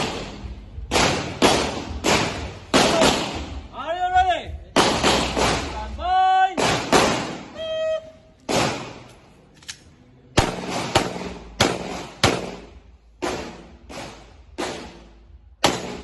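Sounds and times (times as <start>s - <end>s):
pistol shots: 0.0s - 3.6s, 4.8s - 5.8s, 6.6s - 7.6s, 8.5s - 16.0s.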